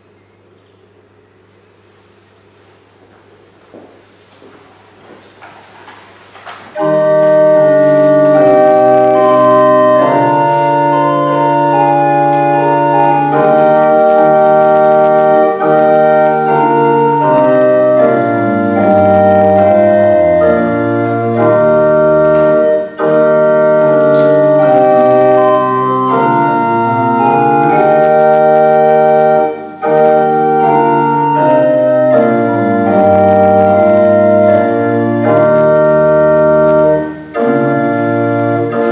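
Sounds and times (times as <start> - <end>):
organ playing slow chords: 6.4 - 38.9.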